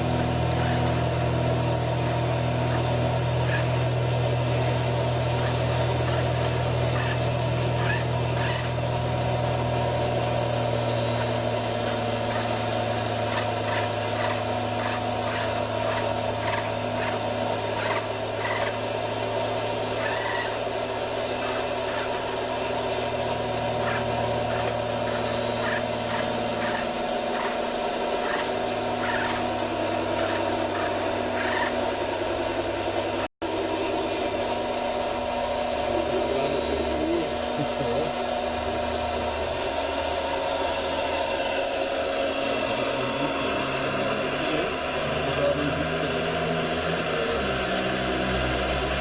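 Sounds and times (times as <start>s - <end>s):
model motor whine and hum: 0.0s - 49.0s.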